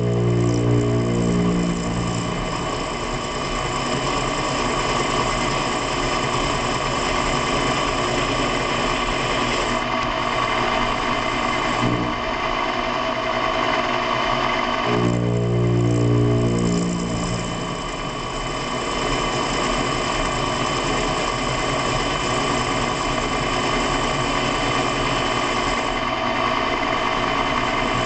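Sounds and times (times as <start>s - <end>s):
metalworking machine tool running: 0.0s - 28.0s.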